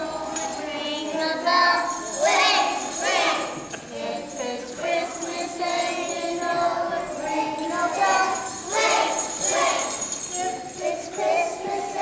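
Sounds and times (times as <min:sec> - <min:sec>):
children singing together: 0:00.0 - 0:12.0
jingle bells shaking: 0:00.0 - 0:12.0.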